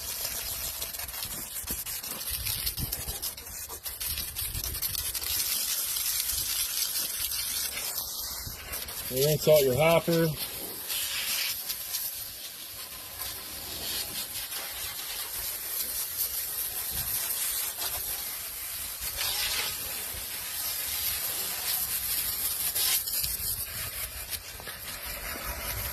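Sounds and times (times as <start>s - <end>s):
water hose spraying: 0.0s - 25.9s.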